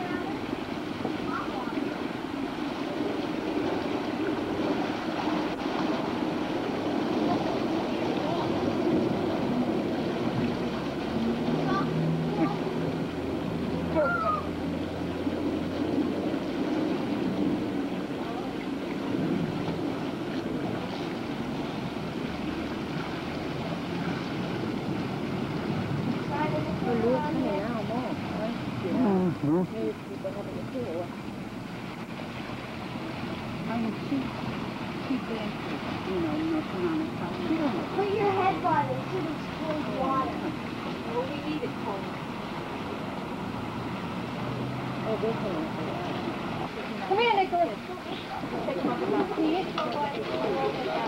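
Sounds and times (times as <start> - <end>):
fountain jets splashing: 0.0 - 51.0.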